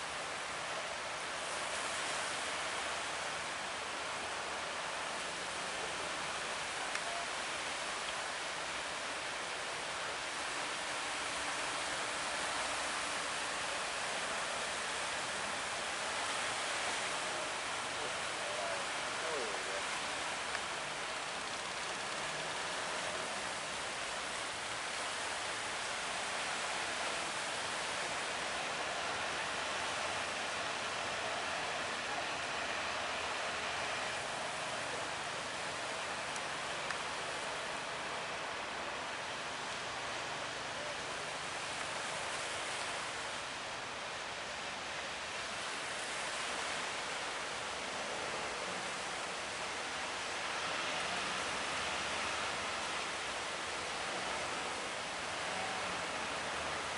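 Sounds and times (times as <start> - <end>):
sea water rushing around boat: 0.0 - 56.9.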